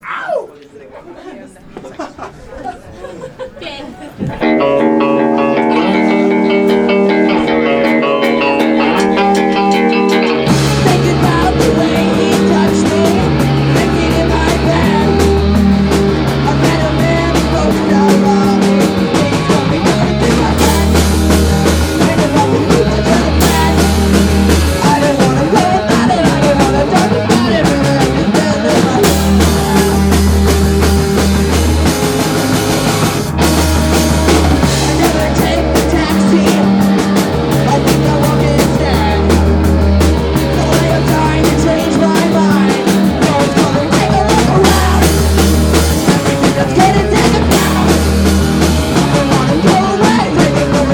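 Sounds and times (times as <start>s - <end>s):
punk rock band playing: 4.2s - 50.9s.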